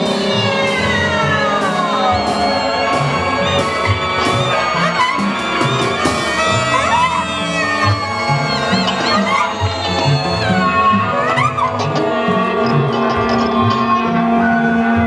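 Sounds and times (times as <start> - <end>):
drum kit: 0.0 - 14.4
accordion: 0.0 - 15.0
electric guitar: 0.0 - 15.0
saxophone: 0.0 - 15.0
strings: 0.0 - 15.0
trumpet: 0.0 - 15.0.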